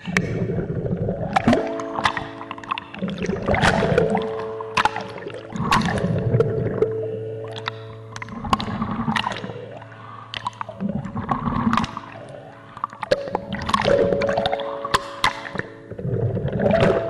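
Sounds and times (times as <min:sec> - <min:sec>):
bubbles clicking against housing: 0:00.0 - 0:12.2, 0:12.8 - 0:17.0
low hum: 0:00.0 - 0:14.9
underwater water sloshing: 0:00.0 - 0:17.0.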